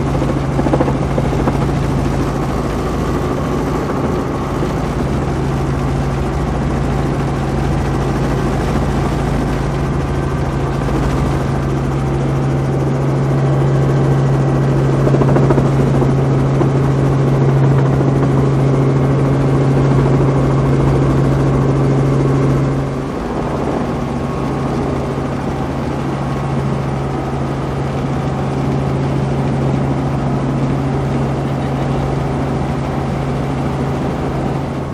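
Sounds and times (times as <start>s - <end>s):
helicopter cabin engine hum: 0.0s - 34.9s.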